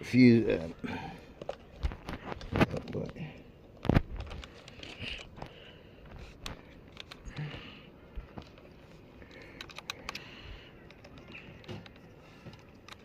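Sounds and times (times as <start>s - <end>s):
hands handling wires and connectors: 0.6s - 13.0s.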